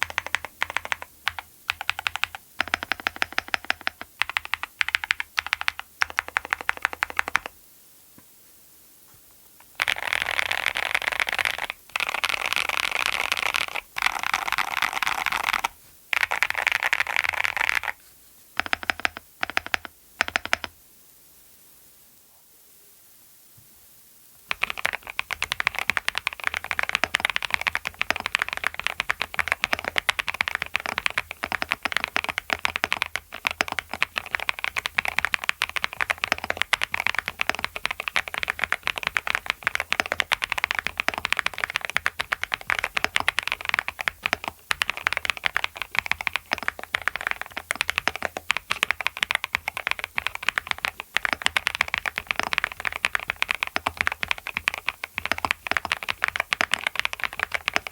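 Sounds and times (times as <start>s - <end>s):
mechanical keyboard typing: 0.0s - 7.6s, 9.7s - 18.0s, 18.6s - 20.8s, 24.5s - 57.9s.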